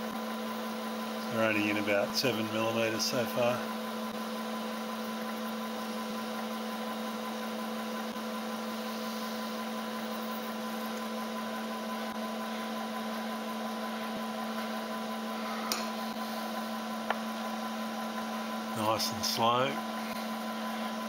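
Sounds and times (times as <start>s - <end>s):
milling machine spindle humming: 0.0s - 21.0s.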